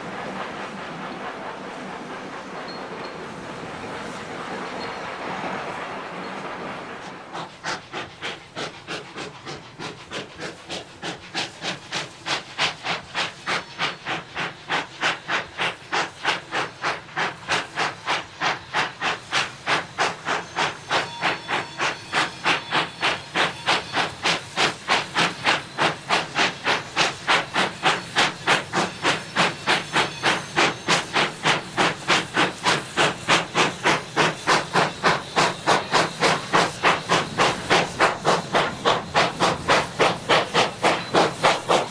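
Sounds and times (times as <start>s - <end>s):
steam locomotive chuffing: 0.0s - 41.9s.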